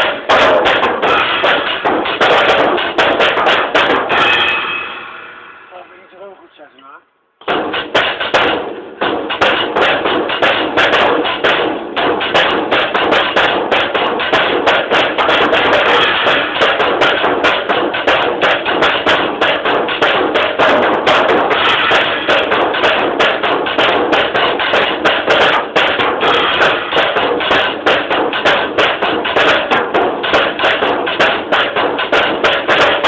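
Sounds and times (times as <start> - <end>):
fast drum solo: 0.0 - 4.6, 7.4 - 33.0.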